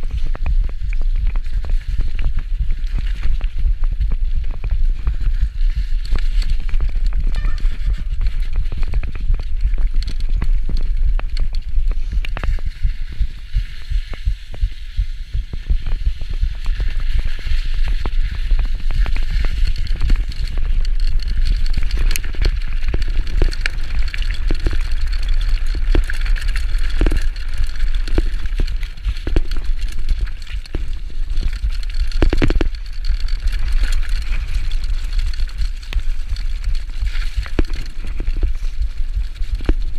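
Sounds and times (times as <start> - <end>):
bike knocking and rattling: 0.0 - 39.9
bike tyres through slush and mud: 0.0 - 39.9
wind rumble on microphone: 0.0 - 39.9.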